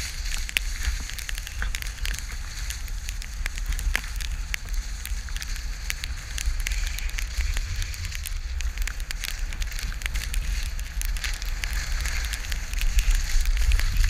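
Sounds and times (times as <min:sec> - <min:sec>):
crackling clicks: 0:00.0 - 0:14.0
skis scraping over snow: 0:00.0 - 0:14.0
wind rumble on microphone: 0:00.0 - 0:14.0.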